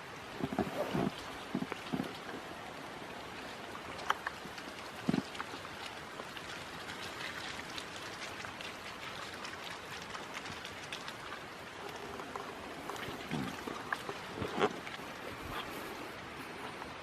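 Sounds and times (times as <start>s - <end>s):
raindrops ticking: 0.0s - 15.8s.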